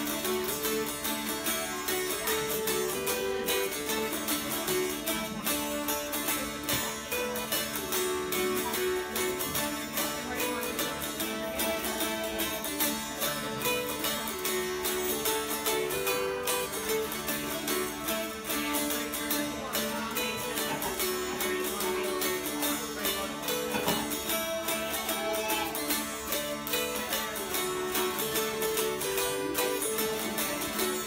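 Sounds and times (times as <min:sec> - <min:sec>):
dulcimers strumming a reel: 0:00.0 - 0:31.0.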